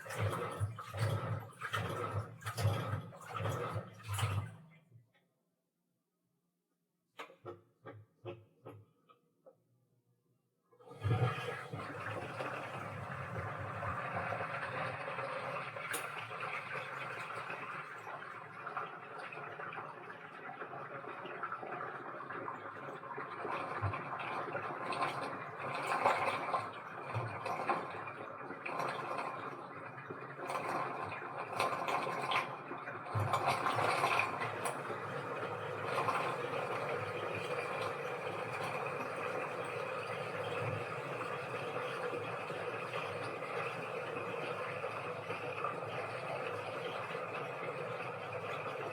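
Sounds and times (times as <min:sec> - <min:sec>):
water rushing into washing machine: 0:00.0 - 0:04.8, 0:10.8 - 0:48.9.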